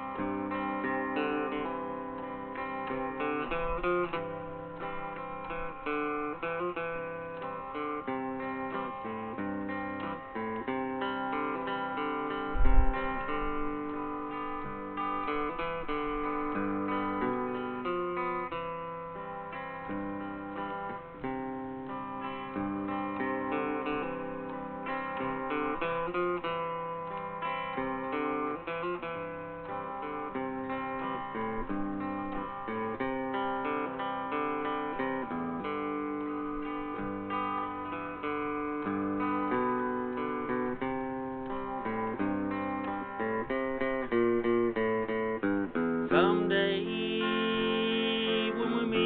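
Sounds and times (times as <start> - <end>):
acoustic guitar picking melody: 0.0 - 49.0.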